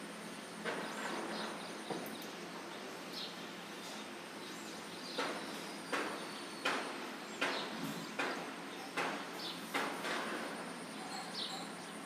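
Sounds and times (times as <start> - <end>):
sparrows chirping: 0.0 - 12.0
steady background hiss: 0.0 - 12.0.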